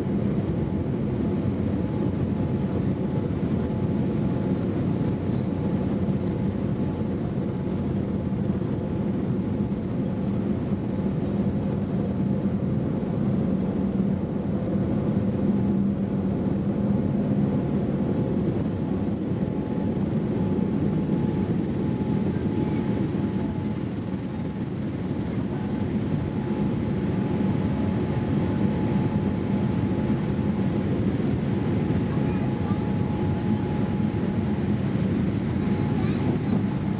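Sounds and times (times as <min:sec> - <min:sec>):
airliner cabin noise: 0:00.1 - 0:36.9.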